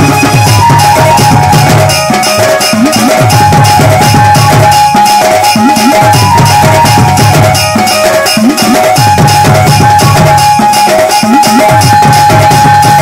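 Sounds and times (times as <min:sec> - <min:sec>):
drum beat: 0:00.0 - 0:13.0
electronic keyboard melody: 0:00.0 - 0:13.0.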